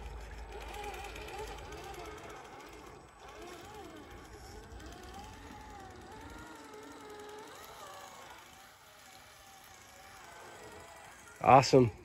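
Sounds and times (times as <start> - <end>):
rc car electric motor whine: 0.0 - 12.0.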